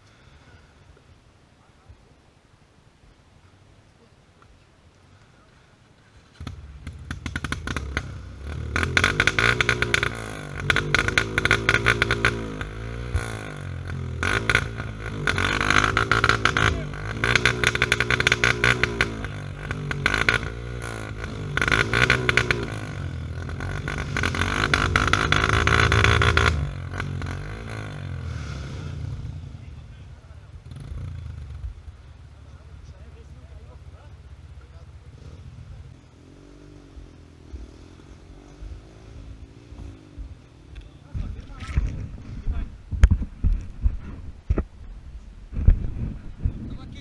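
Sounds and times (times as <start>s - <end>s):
motorcycle engine revving: 6.3s - 44.7s.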